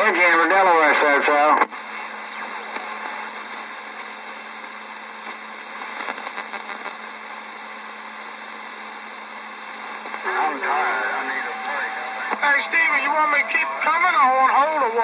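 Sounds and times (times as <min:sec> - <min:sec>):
faint radio crackles: 0:00.0 - 0:15.0
radio static hiss: 0:00.0 - 0:15.0.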